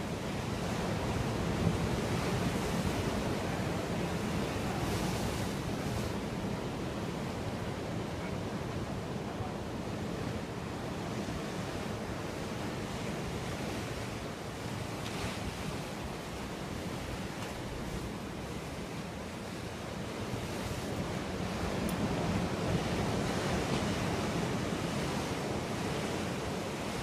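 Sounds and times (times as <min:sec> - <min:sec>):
ocean surf: 0:00.0 - 0:27.0.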